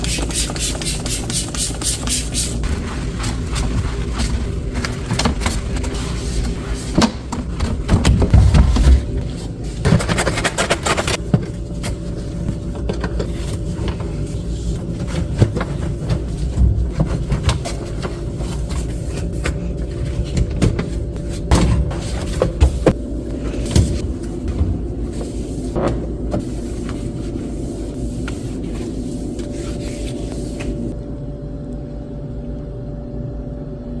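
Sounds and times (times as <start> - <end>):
refrigerator shelves knocking and scraping: 0.0 - 31.0
steady low hum: 0.0 - 34.0.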